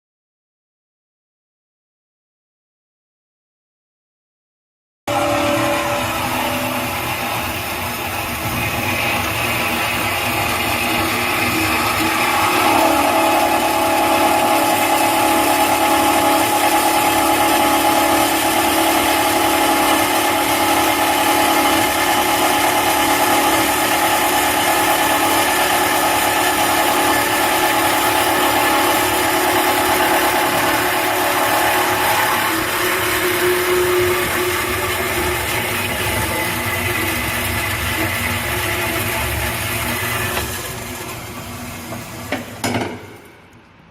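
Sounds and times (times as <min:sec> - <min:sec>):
saw blade whine: 0:05.1 - 0:42.6
band saw machine hum: 0:05.1 - 0:42.8.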